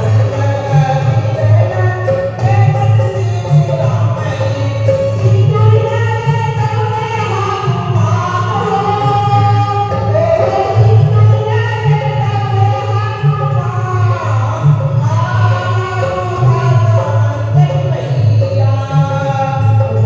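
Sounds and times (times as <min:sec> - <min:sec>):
musical accompaniment: 0:00.0 - 0:20.0.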